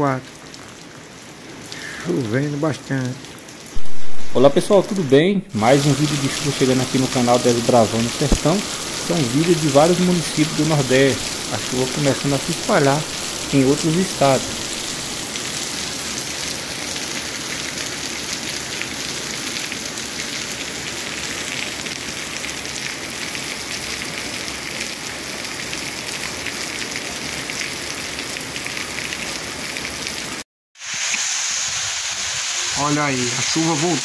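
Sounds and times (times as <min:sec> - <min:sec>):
heavy rain on a wet street: 0:00.0 - 0:34.0.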